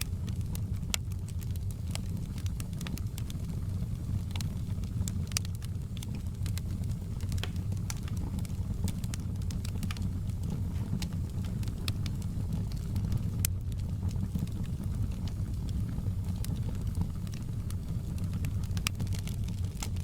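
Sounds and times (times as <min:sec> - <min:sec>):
fire crackling and popping: 0:00.0 - 0:20.0
low rumble of burning: 0:00.0 - 0:20.0.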